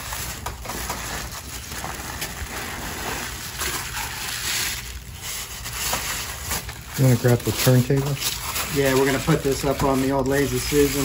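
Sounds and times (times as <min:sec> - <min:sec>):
packing paper rustling: 0:00.0 - 0:11.0.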